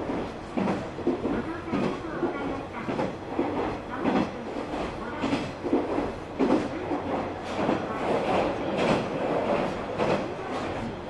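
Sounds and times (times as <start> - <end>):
rumbling rail noise: 0.0 - 11.0.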